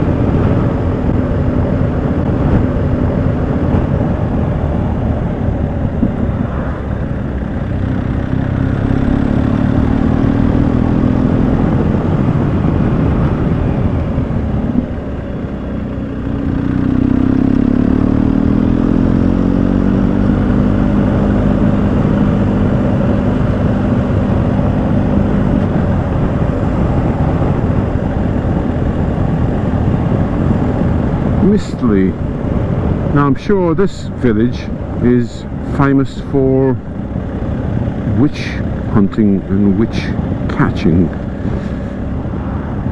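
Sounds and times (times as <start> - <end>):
motorcycle engine running: 0.0 - 33.2, 34.6 - 42.9
wind and road noise: 0.0 - 42.9.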